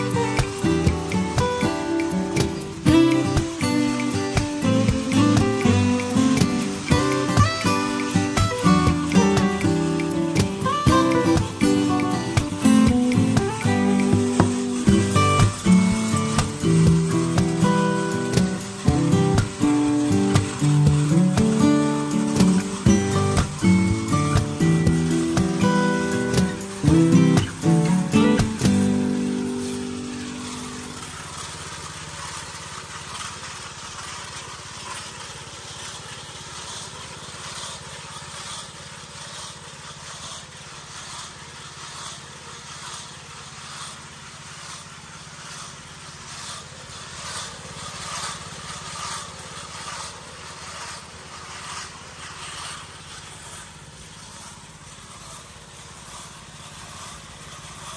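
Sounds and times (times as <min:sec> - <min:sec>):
power trowel petrol engine running: 0:00.0 - 0:57.9
pulsing hiss: 0:00.0 - 0:57.9.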